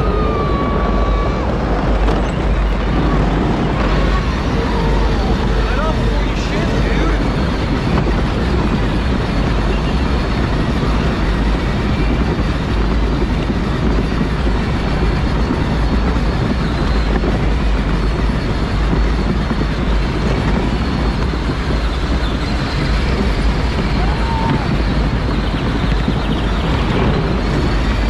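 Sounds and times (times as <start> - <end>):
faint high whine: 0.0 - 28.0
toy car motor and wheels rumble: 0.0 - 28.0
wind on microphone: 0.0 - 28.0.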